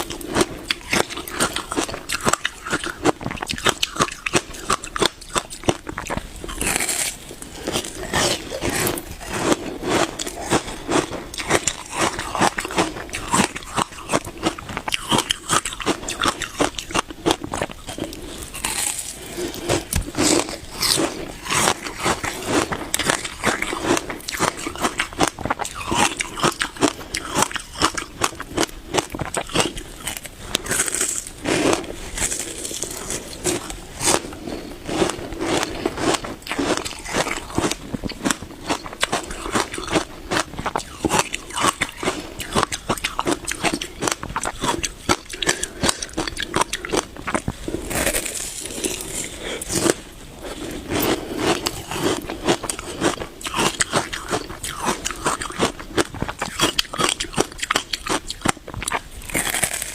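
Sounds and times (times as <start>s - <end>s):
crunchy ice chewing: 0.0s - 59.9s.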